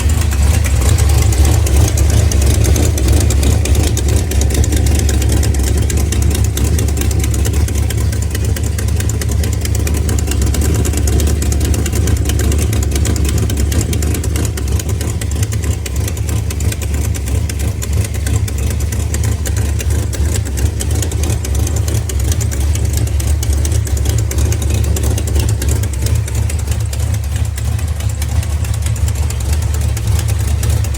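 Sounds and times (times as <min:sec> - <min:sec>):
engine idling: 0:00.0 - 0:30.9
fast engine ticking: 0:00.0 - 0:30.9.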